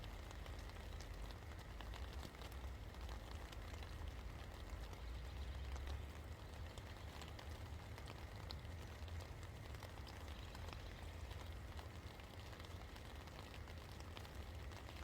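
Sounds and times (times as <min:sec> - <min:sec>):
rain drops ticking on surfaces: 0:00.0 - 0:15.0.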